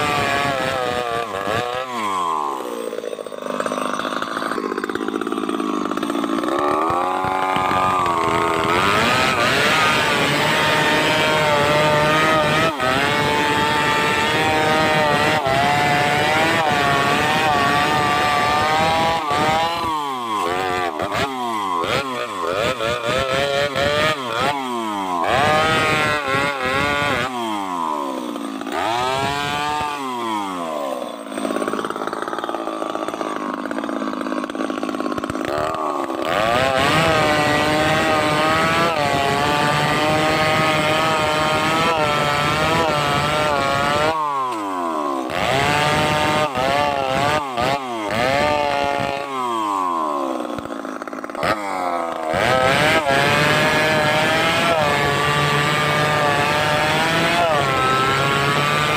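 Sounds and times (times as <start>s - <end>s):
chainsaw revving and cutting: 0.0s - 58.9s.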